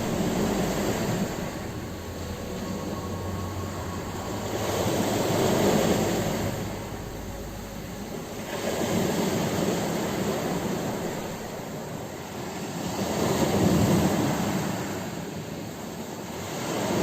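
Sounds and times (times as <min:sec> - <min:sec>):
ocean waves breaking on shore: 0:00.0 - 0:15.4.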